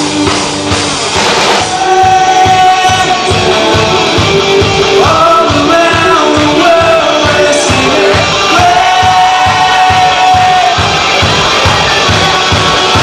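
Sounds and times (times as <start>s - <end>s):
rock band music: 0.0s - 13.0s
steady drum beat: 0.0s - 13.0s.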